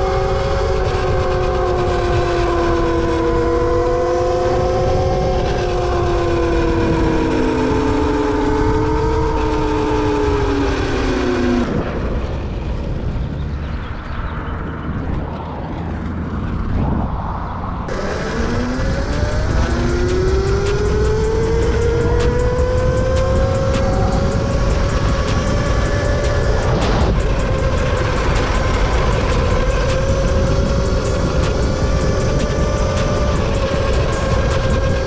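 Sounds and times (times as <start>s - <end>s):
electric dirt bike motor whining: 0.0s - 11.7s, 17.9s - 35.0s
wind rumble on microphone: 0.0s - 35.0s.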